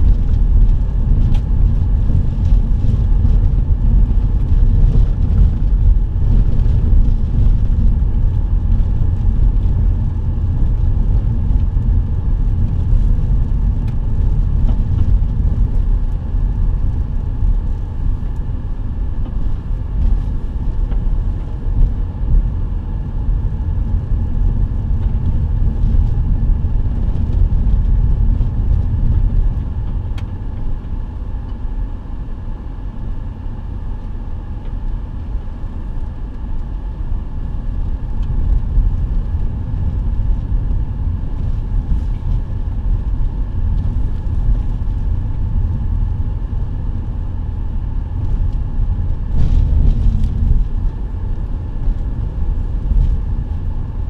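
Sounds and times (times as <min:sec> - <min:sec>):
vehicle rumbling on dirt road: 0:00.0 - 0:54.0.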